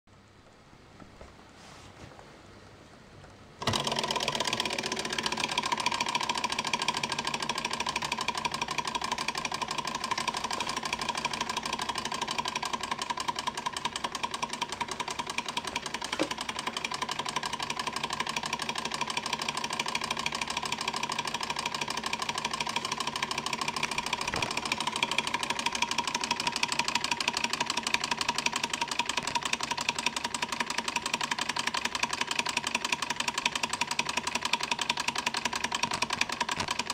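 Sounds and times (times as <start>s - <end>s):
toy hot-air engine clattering: 3.6s - 36.9s.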